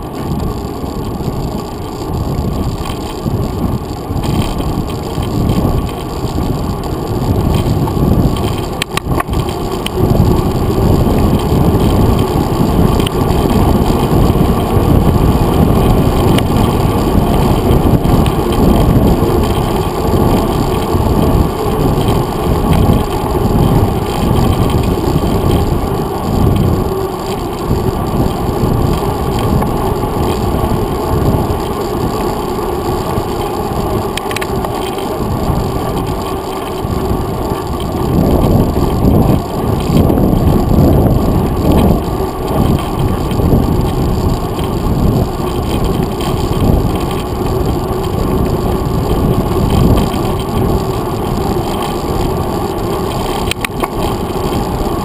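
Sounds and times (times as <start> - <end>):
tyre road rumble: 0.0 - 55.0
wind buffeting microphone: 0.0 - 55.0.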